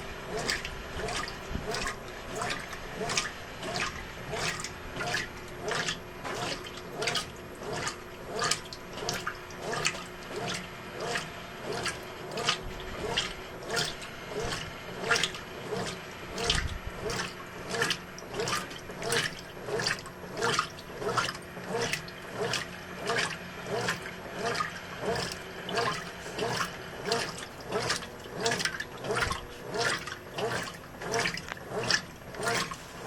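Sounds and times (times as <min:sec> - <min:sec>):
washing machine water sloshing: 0:00.0 - 0:33.0.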